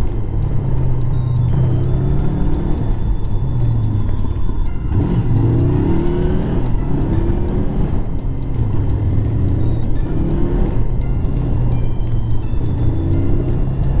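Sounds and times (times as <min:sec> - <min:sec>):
background music: 0:00.0 - 0:14.0
motorcycle engine accelerating: 0:00.0 - 0:14.0.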